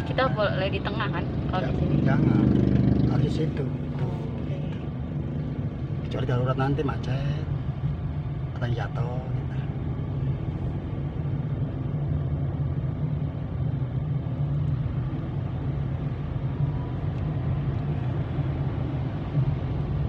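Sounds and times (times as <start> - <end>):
car engine and road hum: 0.0 - 20.0.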